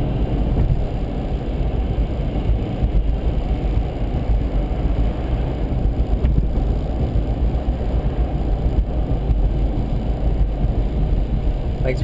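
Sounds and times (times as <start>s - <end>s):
car engine running: 0.0s - 12.0s
tyre and road noise: 0.0s - 12.0s.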